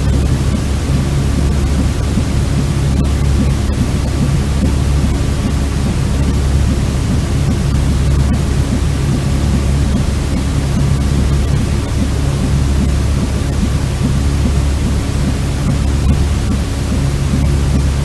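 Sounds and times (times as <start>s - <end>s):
deep rumble: 0.0s - 18.0s
white noise hiss: 0.0s - 18.0s.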